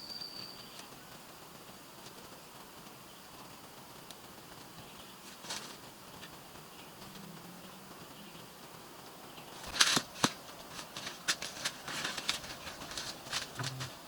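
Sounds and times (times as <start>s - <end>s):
dry material crackling and rustling: 2.0s - 14.0s.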